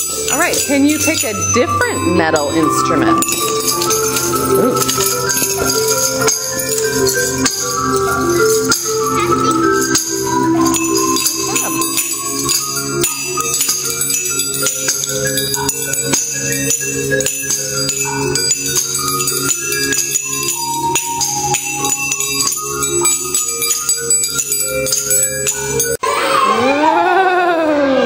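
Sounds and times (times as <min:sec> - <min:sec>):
melody with steady beat: 0:00.0 - 0:26.0
tambourine jingles: 0:00.0 - 0:26.0
bells: 0:00.0 - 0:26.9.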